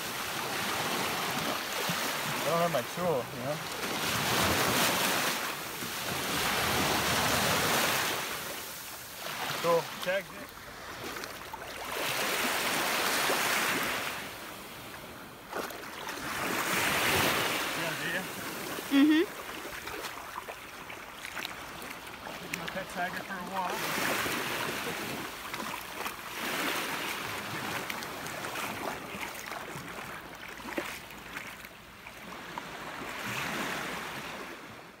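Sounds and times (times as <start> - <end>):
small waves washing on beach: 0.0 - 35.0.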